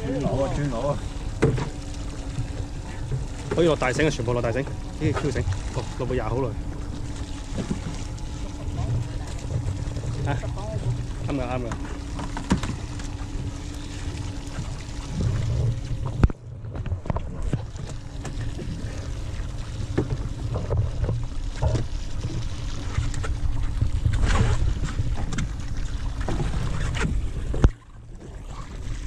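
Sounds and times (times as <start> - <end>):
boat engine low rumble: 0.0 - 29.0.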